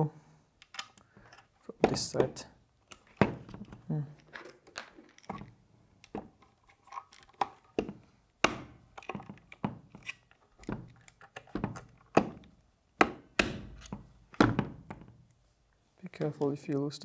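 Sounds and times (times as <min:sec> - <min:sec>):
hard parts knocking and clicking: 0:00.6 - 0:15.2.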